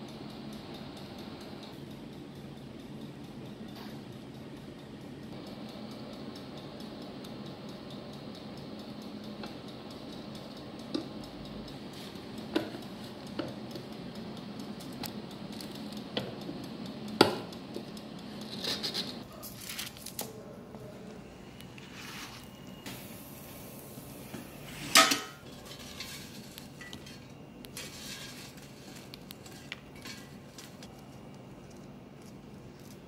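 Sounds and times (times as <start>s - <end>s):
low appliance hum: 0.0s - 33.0s.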